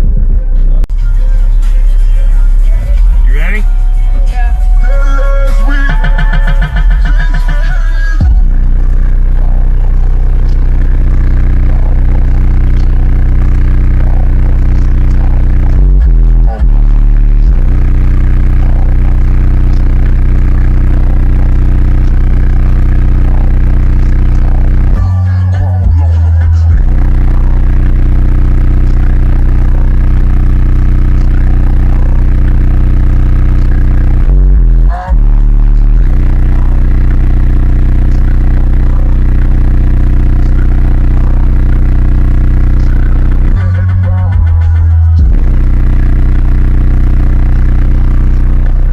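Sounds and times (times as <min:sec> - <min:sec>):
loud deep bass note: 0:00.0 - 0:48.9.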